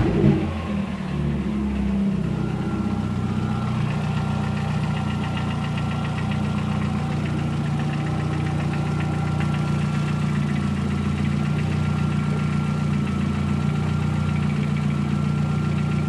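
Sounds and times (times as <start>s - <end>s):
car engine idling: 0.0s - 16.0s
metallic clacking inside engine: 0.0s - 16.0s.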